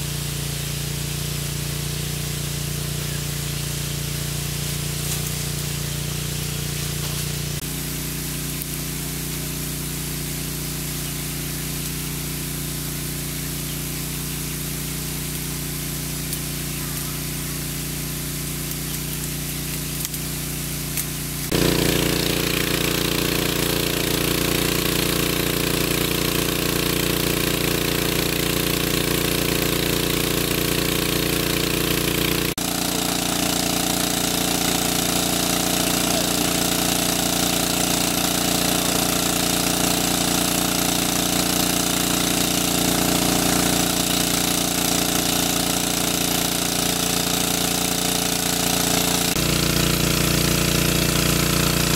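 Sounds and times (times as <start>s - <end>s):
water gushing: 0.0s - 51.9s
water pump running: 0.0s - 51.9s.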